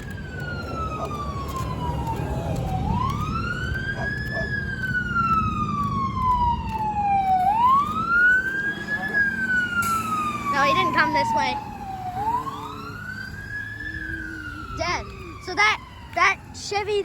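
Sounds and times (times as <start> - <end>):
emergency vehicle siren wailing: 0.0 - 17.0
low rumble of road traffic: 0.0 - 17.0.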